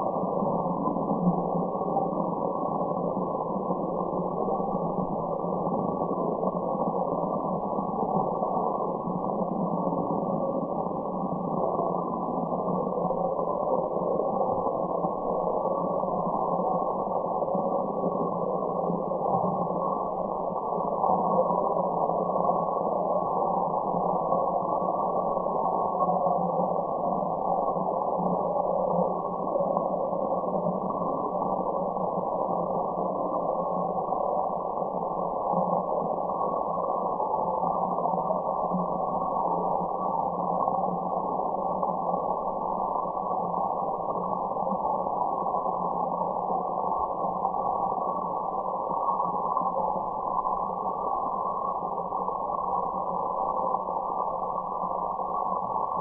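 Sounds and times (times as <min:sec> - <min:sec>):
muffled white noise hiss: 0:00.0 - 0:56.0.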